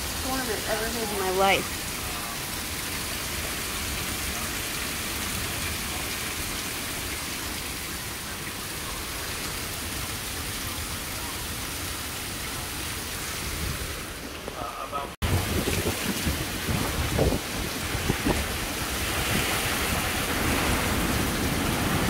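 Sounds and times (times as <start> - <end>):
rain pouring: 0.0 - 22.0.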